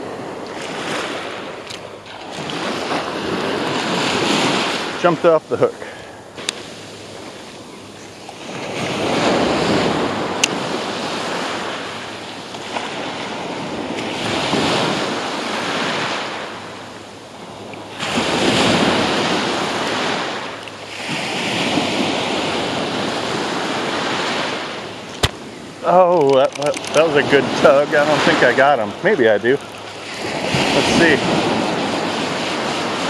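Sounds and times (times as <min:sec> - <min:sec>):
small waves breaking on sand: 0:00.0 - 0:33.0.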